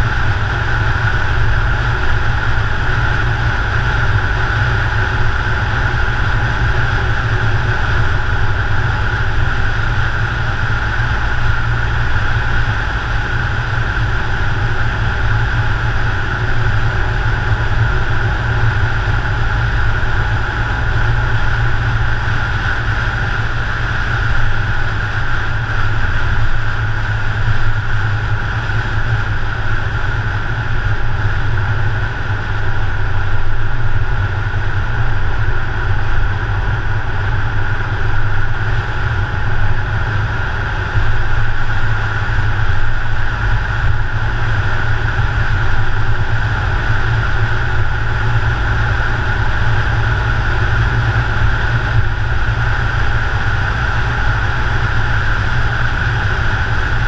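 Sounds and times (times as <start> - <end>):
car wind and engine rumble: 0.0 - 57.0.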